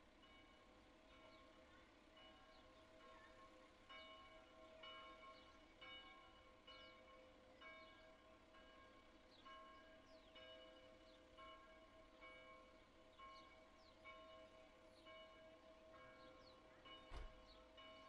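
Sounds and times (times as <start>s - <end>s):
distant church bell ringing: 0.2s - 18.0s.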